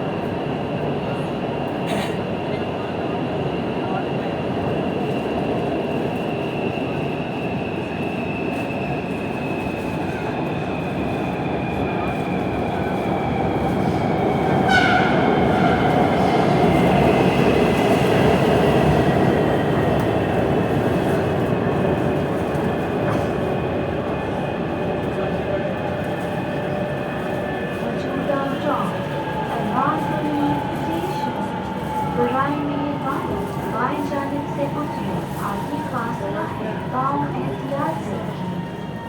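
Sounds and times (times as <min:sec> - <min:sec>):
train wheels rumbling on track: 0:00.0 - 0:39.0.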